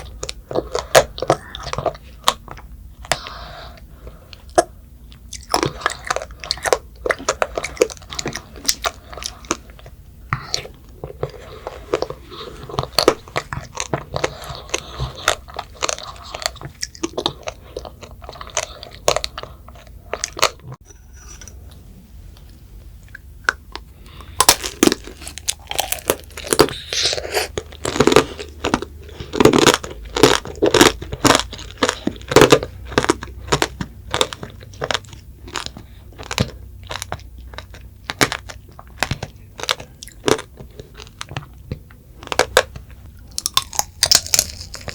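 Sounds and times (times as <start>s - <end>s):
crunching and chewing candy: 0.0s - 21.8s, 22.4s - 44.9s.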